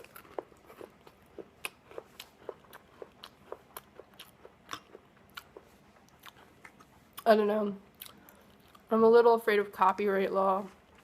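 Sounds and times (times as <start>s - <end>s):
person chewing crunchy food: 0.0s - 8.9s.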